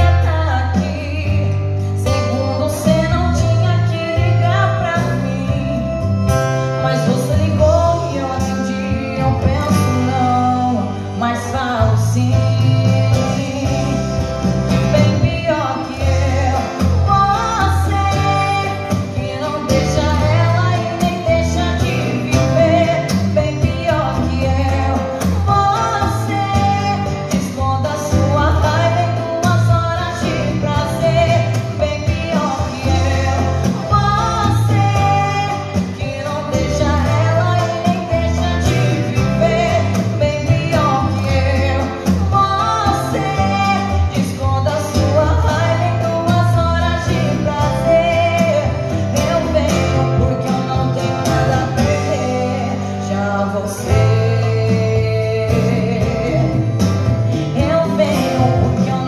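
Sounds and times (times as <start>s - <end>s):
strummed acoustic guitar: 0.0s - 59.0s
woman singing: 0.0s - 59.0s.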